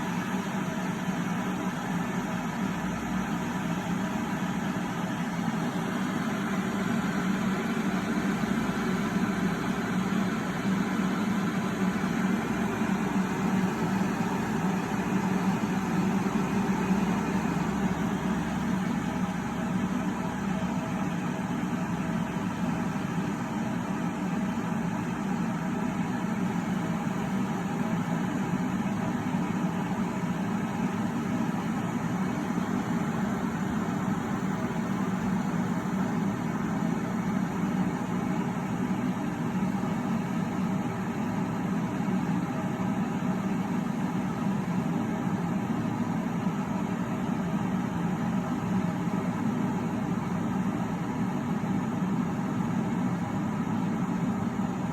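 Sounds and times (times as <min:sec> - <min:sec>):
electric kettle heating water: 0:00.0 - 0:54.9.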